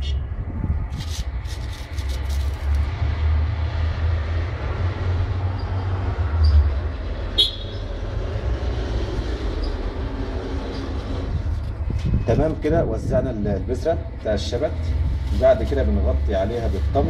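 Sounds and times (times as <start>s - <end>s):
steady low rumble: 0.0s - 7.3s, 7.9s - 17.0s.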